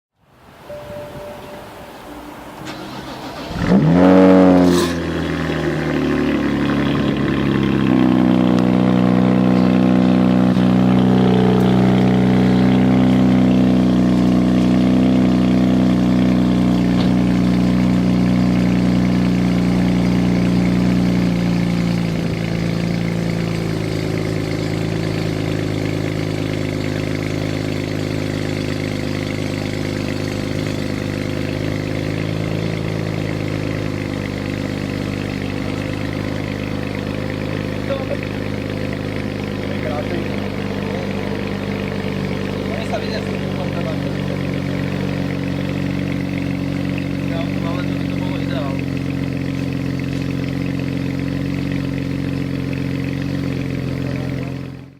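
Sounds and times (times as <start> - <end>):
car engine starting and idling: 0.2 - 54.9.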